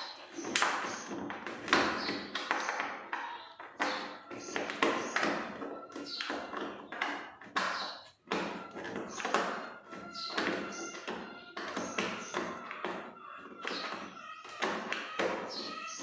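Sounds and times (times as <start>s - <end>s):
plastic parts tapping and clicking: 0.0s - 16.0s.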